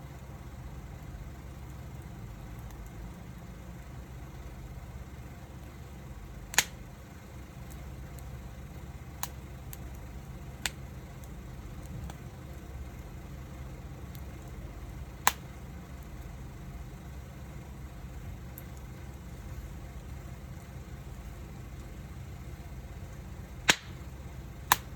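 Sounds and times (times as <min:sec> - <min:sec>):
wood fire burning: 0:00.0 - 0:24.9
wood fire crackling pops: 0:00.0 - 0:24.9.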